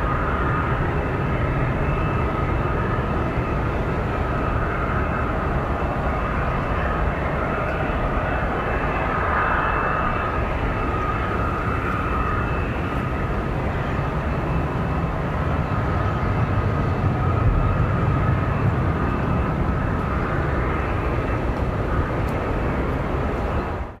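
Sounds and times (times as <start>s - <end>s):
jet engines whining and rumbling: 0.0s - 24.0s.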